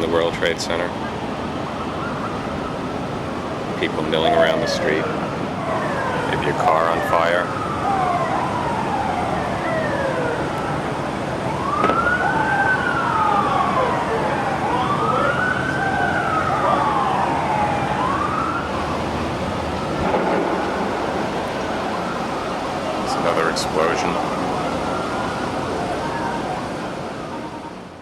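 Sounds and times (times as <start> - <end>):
emergency sirens wailing: 0.0 - 28.0
street noise: 0.0 - 28.0.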